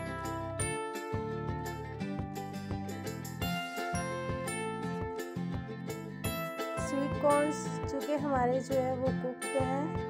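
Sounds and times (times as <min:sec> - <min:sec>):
melodic music over steady beat: 0:00.0 - 0:10.0.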